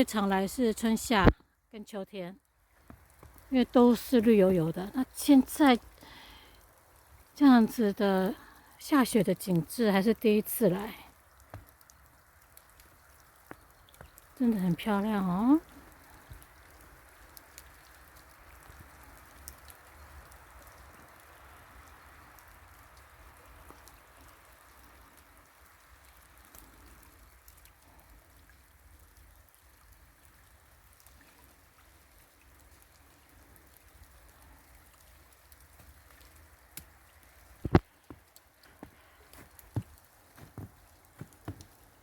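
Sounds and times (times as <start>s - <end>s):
snow dripping from trees: 0.0s - 42.0s.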